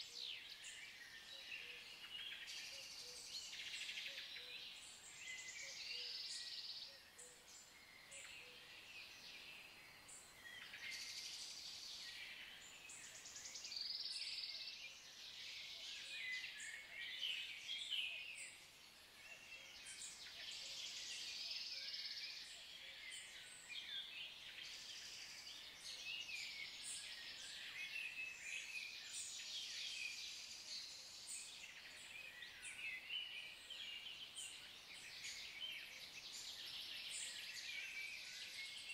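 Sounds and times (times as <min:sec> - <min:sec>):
birds chirping and singing: 0:00.0 - 0:38.9
faint background hiss: 0:00.0 - 0:38.9.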